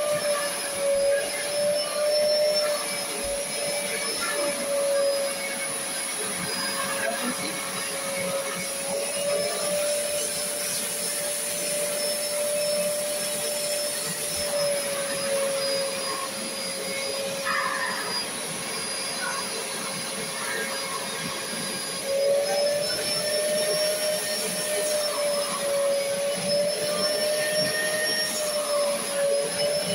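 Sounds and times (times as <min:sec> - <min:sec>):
vacuum cleaner running: 0:00.0 - 0:29.9.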